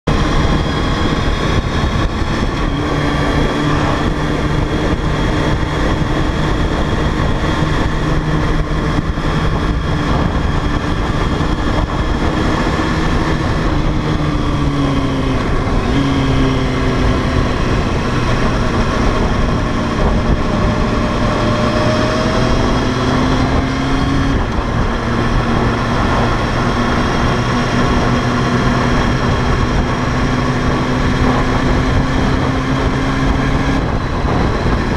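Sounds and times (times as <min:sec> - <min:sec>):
motorcycle engine running: 0:00.0 - 0:34.9
wind rushing over microphone: 0:00.0 - 0:34.9.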